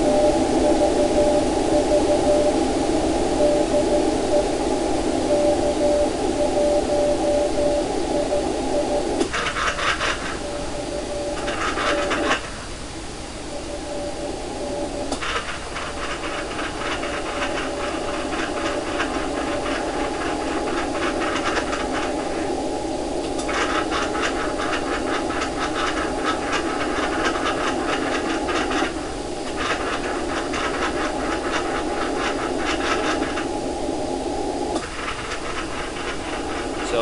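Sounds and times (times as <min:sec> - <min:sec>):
rapid scratchy clicking: 0:00.0 - 0:12.8, 0:13.6 - 0:37.0
faint steady tone: 0:00.0 - 0:37.0
radio receiver hiss: 0:00.0 - 0:37.0.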